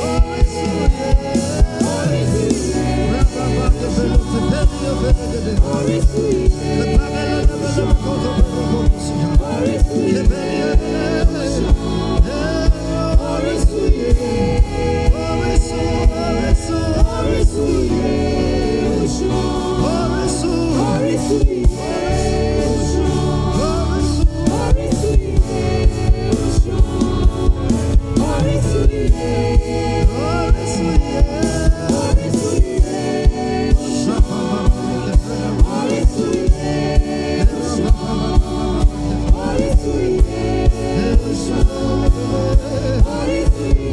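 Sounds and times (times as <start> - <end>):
singers and choir: 0.0 - 43.9
steady drum beat: 0.0 - 43.9.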